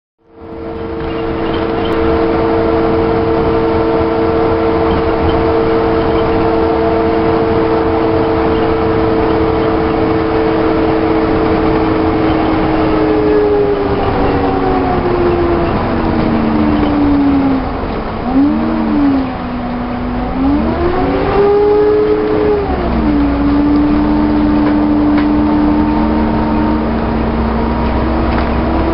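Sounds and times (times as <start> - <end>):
bus drivetrain whine: 0.2 - 28.9
low engine rumble: 0.2 - 28.9.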